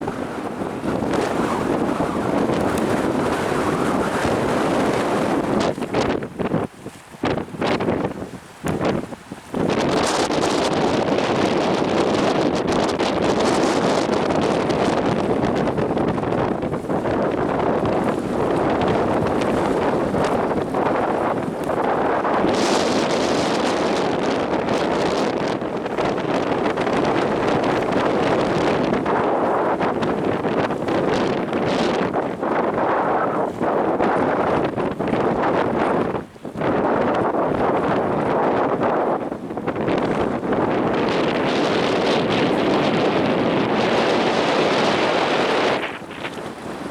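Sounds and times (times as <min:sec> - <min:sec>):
strong wind buffeting microphone: 0:00.0 - 0:46.9.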